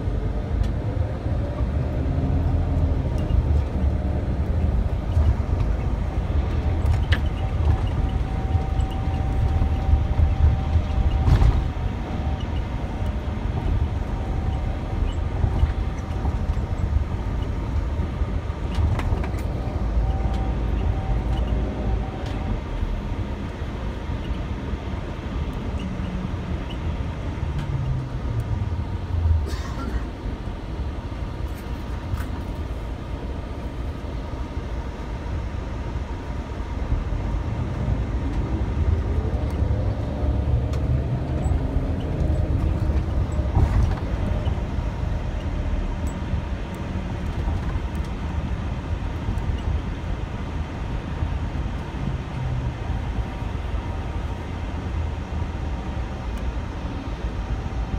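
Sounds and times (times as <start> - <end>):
bus engine rumble: 0.0 - 57.9
road noise: 0.0 - 57.9.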